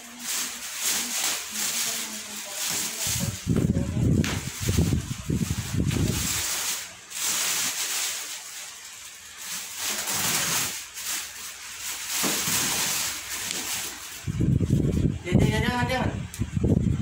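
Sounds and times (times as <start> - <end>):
plastic bag rustling and crinkling: 0.0 - 15.2.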